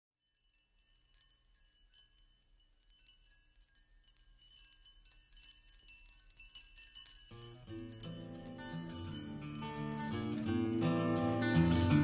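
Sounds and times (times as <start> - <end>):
tinkling high bell tones music: 0.2 - 12.0.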